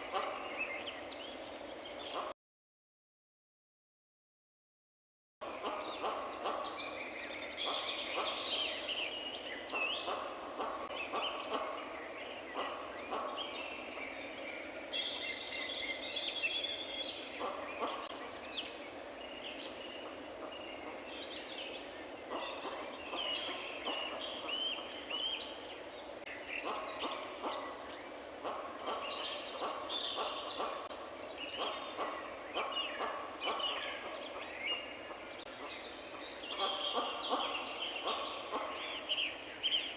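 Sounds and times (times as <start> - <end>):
birds chirping: 0.0 - 2.3, 5.4 - 39.9
steady background hiss: 0.0 - 2.3, 5.4 - 39.9.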